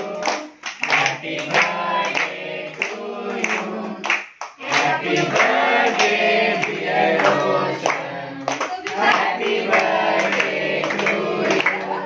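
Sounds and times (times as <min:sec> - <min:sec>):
people clapping along: 0:00.0 - 0:12.0
people singing together: 0:00.0 - 0:12.0.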